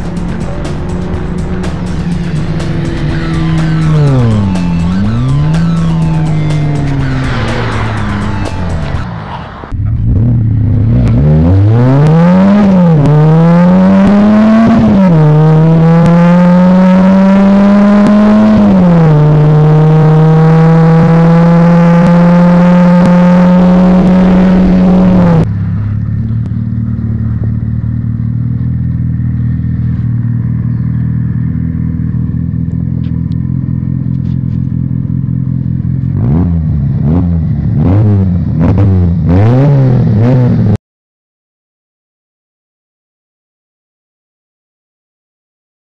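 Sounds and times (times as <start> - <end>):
car engine accelerating: 0.0 - 40.8.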